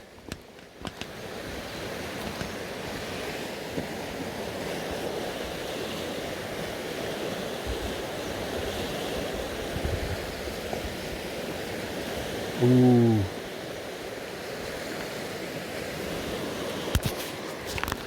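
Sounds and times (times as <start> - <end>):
river water rushing over stones: 0.0 - 18.0.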